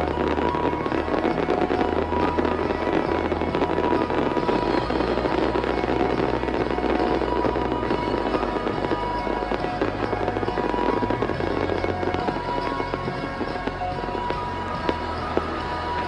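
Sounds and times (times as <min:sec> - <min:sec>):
fireworks crackling and banging: 0:00.0 - 0:16.0
music playing: 0:00.0 - 0:16.0.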